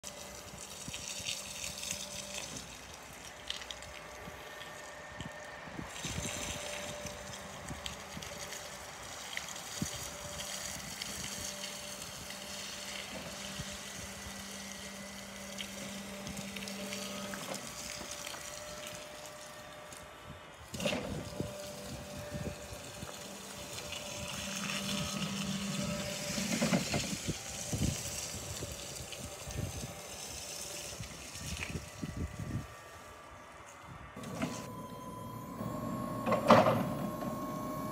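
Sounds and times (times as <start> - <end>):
electric motor hum: 0.0 - 37.9.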